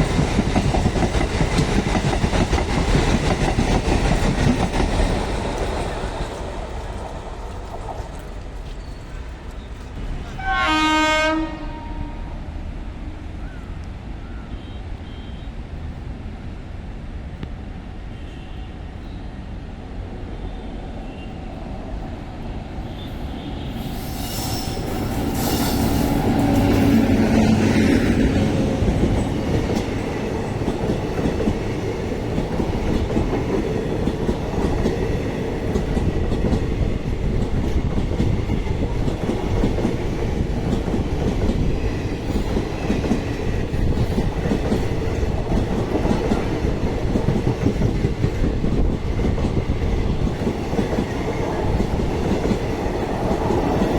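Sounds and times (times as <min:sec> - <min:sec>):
passenger train passing: 0:00.0 - 0:53.9.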